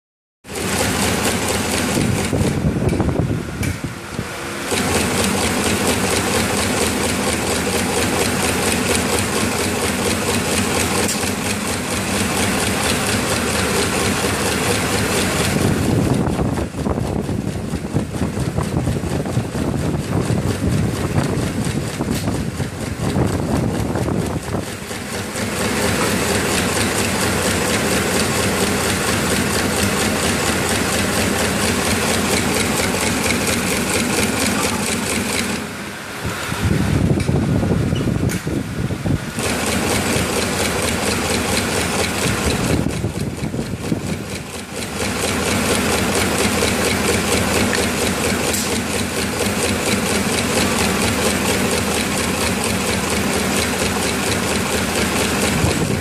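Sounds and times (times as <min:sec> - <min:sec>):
tufting machine clattering: 0:00.6 - 0:03.9, 0:04.6 - 0:35.7, 0:39.4 - 0:56.0.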